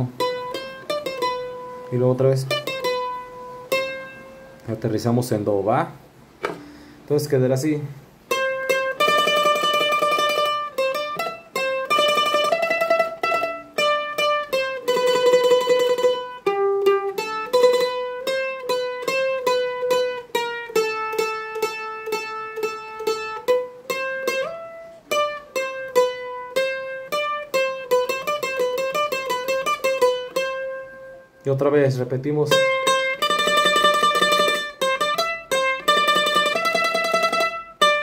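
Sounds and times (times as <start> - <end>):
mandolin melody with tremolo picking: 0.0 - 38.0.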